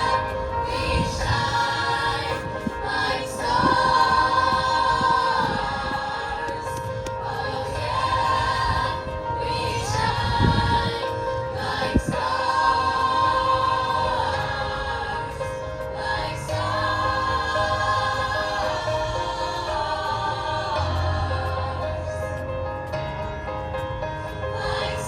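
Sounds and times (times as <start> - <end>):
choir singing sustained chords: 0.0 - 25.0.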